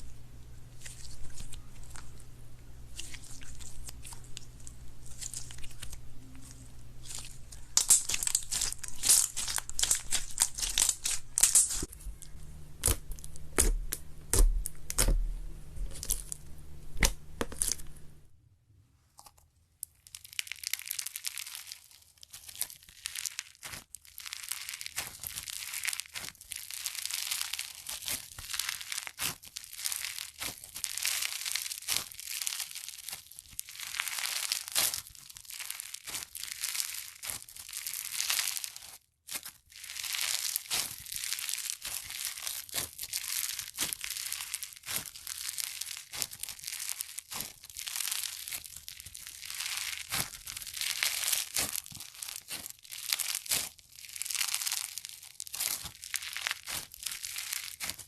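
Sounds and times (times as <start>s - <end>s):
slime crackling and popping: 2.9s - 18.1s, 19.8s - 58.0s.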